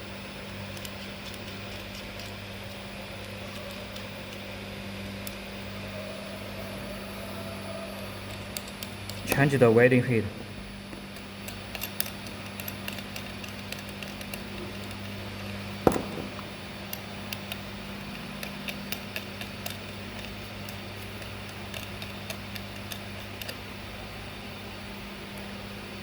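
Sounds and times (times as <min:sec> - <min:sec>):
steady low hum: 0:00.0 - 0:26.0
light clicks of parts: 0:00.6 - 0:05.8, 0:08.2 - 0:09.6, 0:10.9 - 0:25.6.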